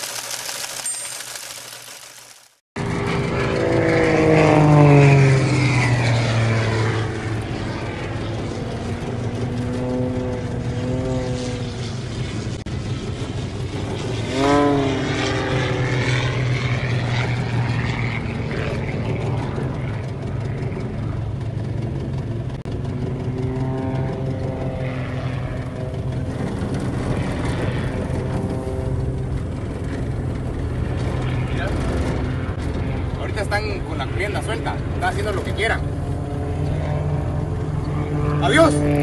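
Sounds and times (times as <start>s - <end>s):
propeller airplane engine droning: 0.0s - 39.0s.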